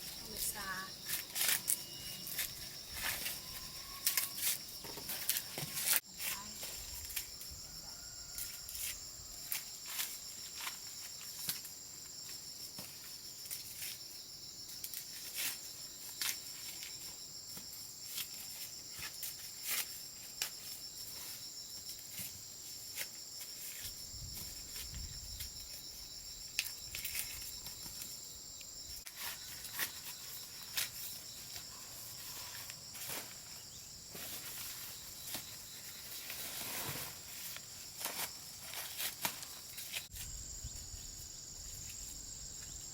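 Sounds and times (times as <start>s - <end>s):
insects buzzing: 0.0s - 42.9s.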